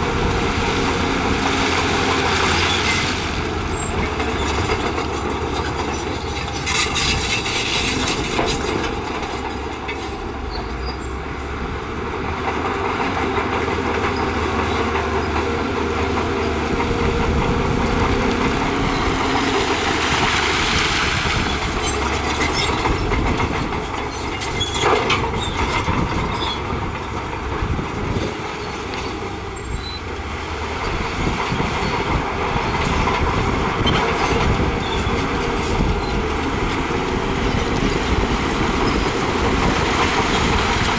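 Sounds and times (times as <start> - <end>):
diesel engine under load: 0.0 - 40.9
steel tracks clanking: 0.0 - 40.9.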